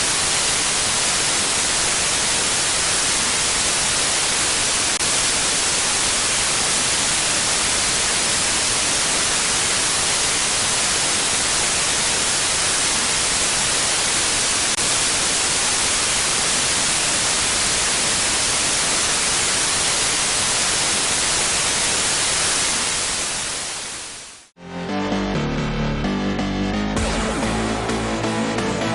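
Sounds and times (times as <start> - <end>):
static white noise hiss: 0.0 - 24.5.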